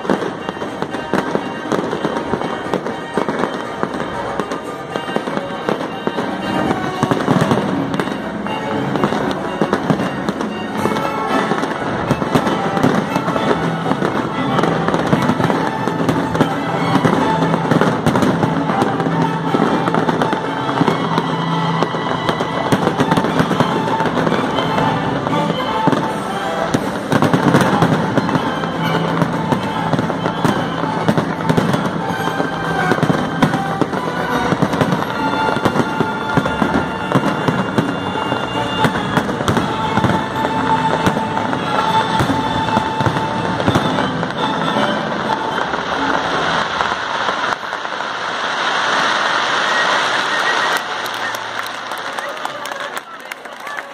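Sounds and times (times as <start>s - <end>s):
music playing: 0.0s - 53.2s
firework shells bursting and crackling: 0.0s - 53.9s.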